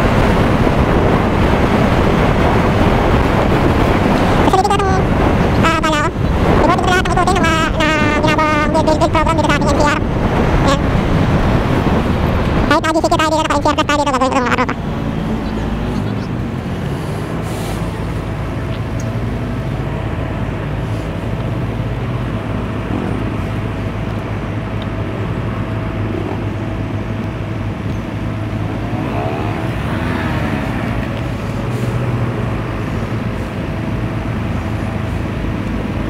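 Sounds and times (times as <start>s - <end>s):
engine revving: 0.0s - 36.0s
vehicle engines idling: 0.0s - 36.0s.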